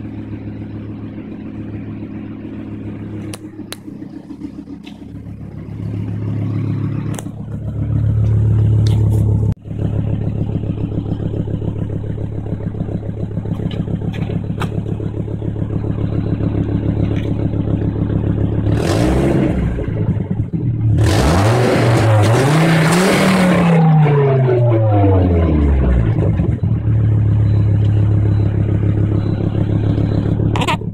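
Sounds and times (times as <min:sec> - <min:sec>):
car engine idling: 0:00.0 - 0:30.9
engine revving: 0:00.0 - 0:30.9.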